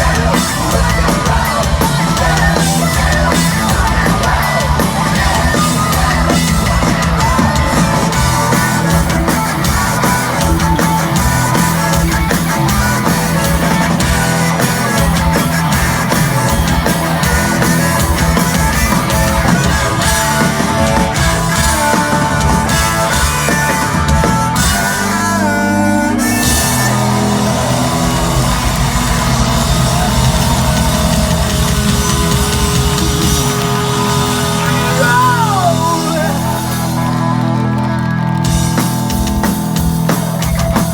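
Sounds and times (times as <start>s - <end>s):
distorted electric guitars: 0.0s - 40.9s
pounding drum kit: 0.0s - 40.9s
rock band playing: 0.0s - 40.9s.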